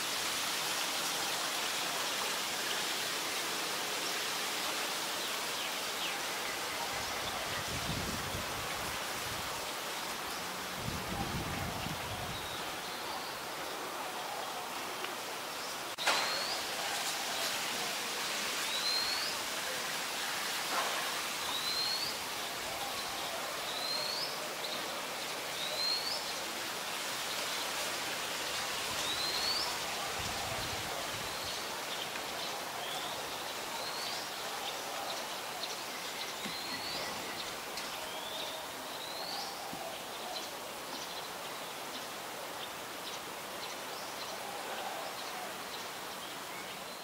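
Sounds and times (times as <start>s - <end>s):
steady background hiss: 0.0s - 47.0s.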